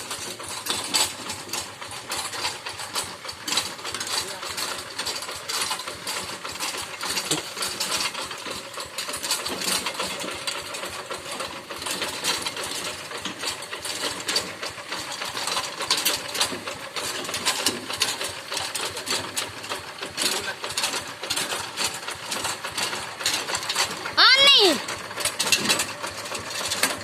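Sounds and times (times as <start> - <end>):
tractor diesel engine clattering: 0.0 - 27.0.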